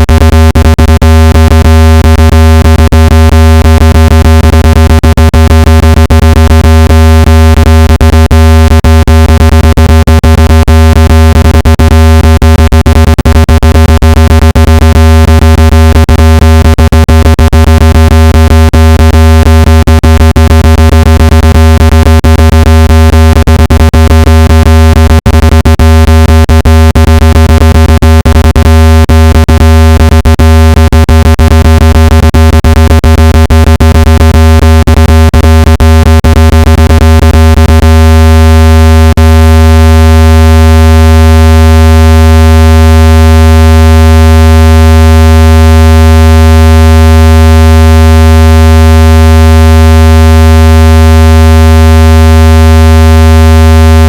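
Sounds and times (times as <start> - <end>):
low electronic buzz tone: 0.0 - 54.0.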